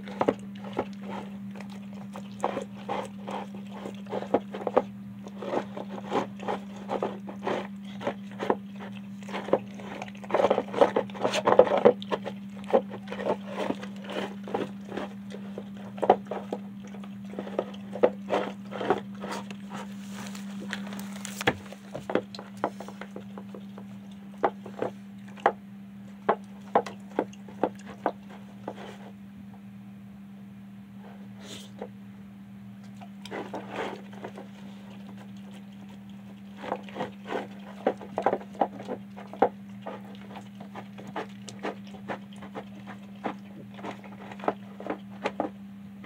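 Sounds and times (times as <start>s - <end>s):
dog eating with wet chews: 0.0s - 29.2s, 32.8s - 46.0s
steady low hum: 0.0s - 46.0s.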